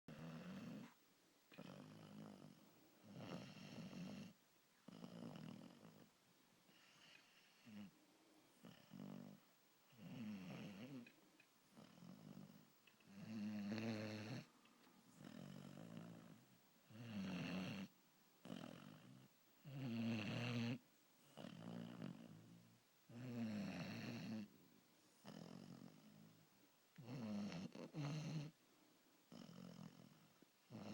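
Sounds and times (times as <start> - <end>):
puppy snoring: 0.1 - 8.0, 8.6 - 24.5, 25.1 - 28.6, 29.3 - 30.9.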